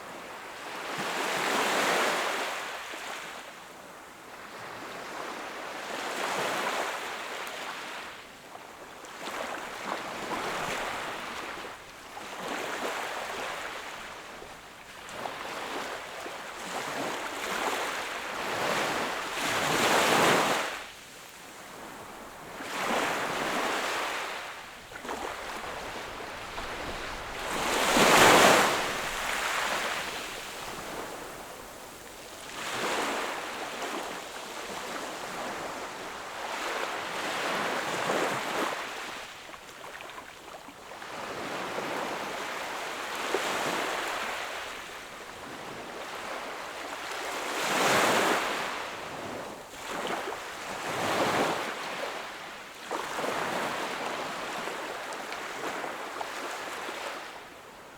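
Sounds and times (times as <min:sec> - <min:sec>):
small waves breaking on beach: 0:04.2 - 0:57.9.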